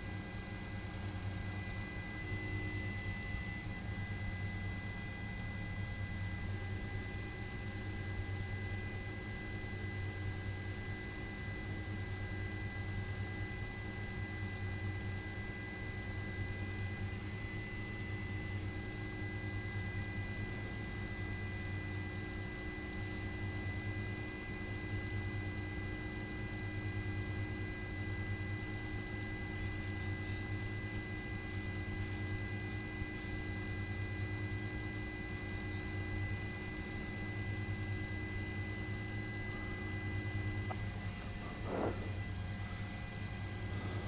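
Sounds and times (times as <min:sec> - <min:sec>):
helicopter engine and rotor hum: 0:00.0 - 0:44.0.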